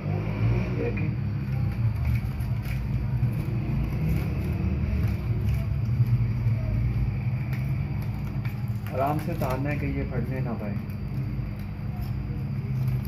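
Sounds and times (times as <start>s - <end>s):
paper and foil crinkling: 1.3s - 13.0s.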